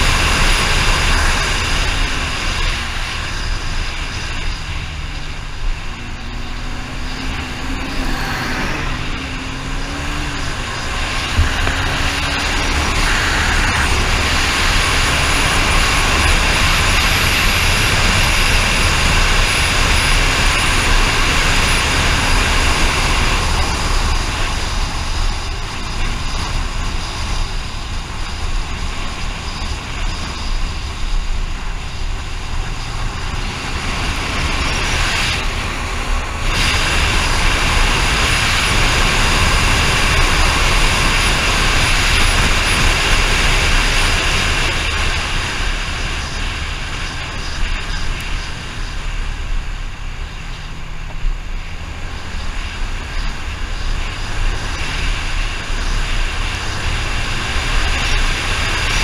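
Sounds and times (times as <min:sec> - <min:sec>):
vehicle travelling on road: 0:00.0 - 0:59.0
wind rumble on microphone: 0:00.0 - 0:59.0.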